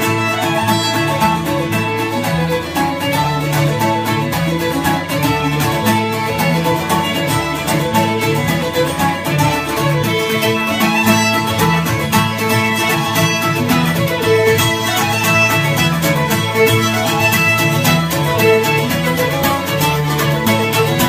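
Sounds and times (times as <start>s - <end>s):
bouzouki strumming: 0.0s - 21.0s
fiddle bowed melody: 0.0s - 21.0s.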